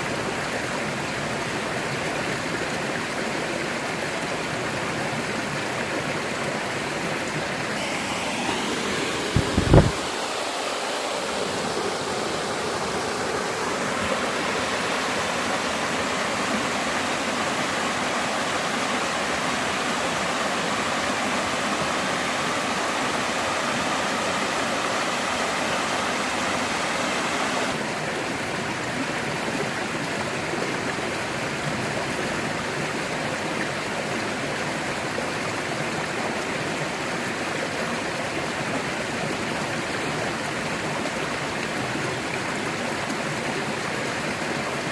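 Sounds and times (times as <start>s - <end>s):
river water rushing over rocks: 0.0s - 44.9s.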